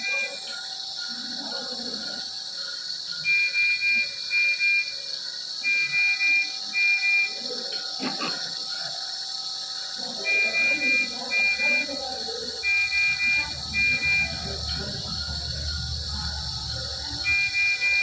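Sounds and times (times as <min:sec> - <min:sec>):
medical monitor alarm beeping: 0:00.0 - 0:01.4, 0:03.0 - 0:07.9, 0:09.5 - 0:18.0.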